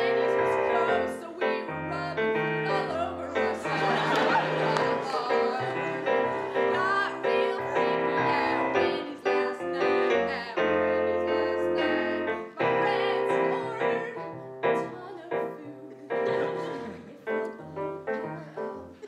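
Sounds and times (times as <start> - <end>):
woman singing: 0.0 - 16.3
piano chords: 0.0 - 19.0.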